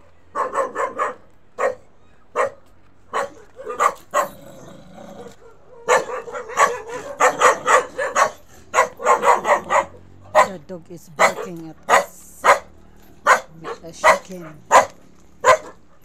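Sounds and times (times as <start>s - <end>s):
dog barking: 0.3s - 4.4s, 5.4s - 10.6s, 11.2s - 16.0s.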